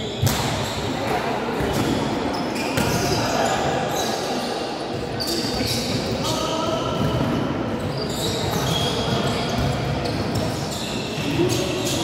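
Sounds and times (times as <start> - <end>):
balls bouncing and being struck: 0.0 - 3.7, 4.9 - 12.0
sneaker squeaks on floor: 0.0 - 12.0.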